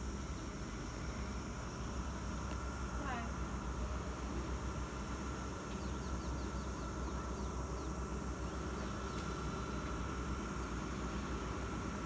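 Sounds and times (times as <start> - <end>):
distant diesel train rumble: 0.0 - 12.0.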